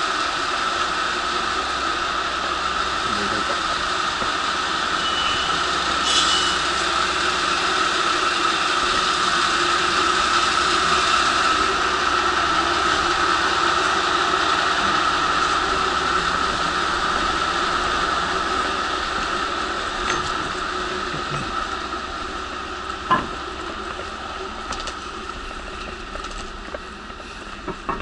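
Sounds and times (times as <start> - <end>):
diesel railcar idling: 0.0 - 28.0.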